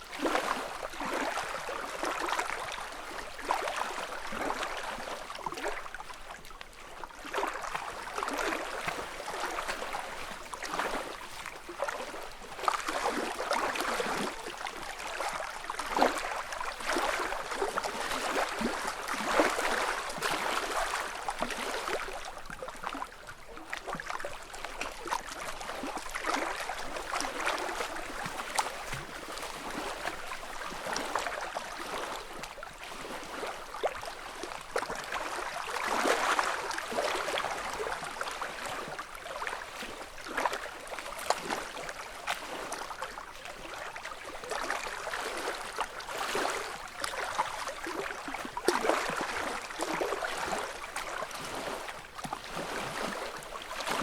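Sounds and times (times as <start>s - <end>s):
lake ripples lapping shore: 0.0s - 54.0s
light water splashes: 0.0s - 54.0s.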